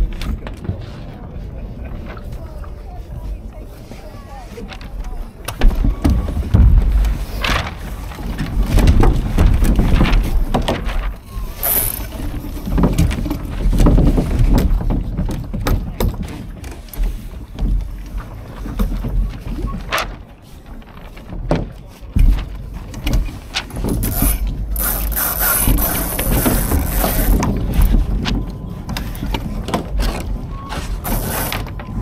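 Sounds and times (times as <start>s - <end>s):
boat knocks and clicks: 0.0s - 32.0s.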